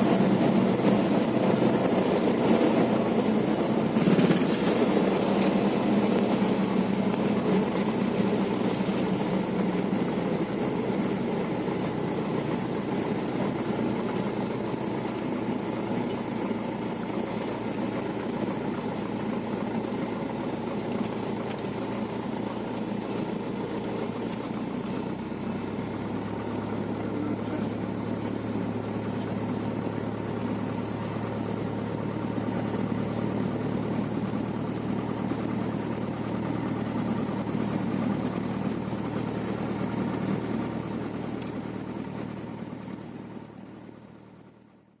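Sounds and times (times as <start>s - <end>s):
piston aircraft engine running: 0.0s - 45.0s.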